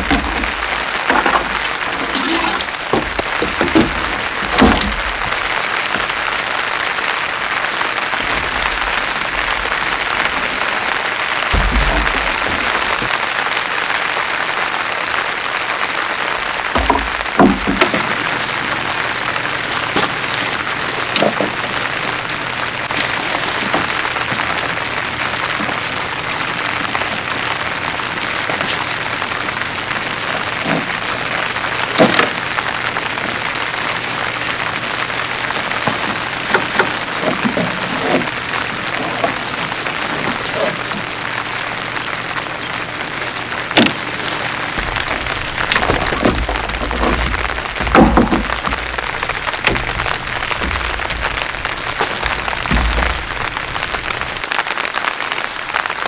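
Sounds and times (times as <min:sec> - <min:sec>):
tent poles clicking: 0:00.0 - 0:13.6, 0:16.7 - 0:42.3, 0:42.9 - 0:56.0
steady rain: 0:00.0 - 0:56.0.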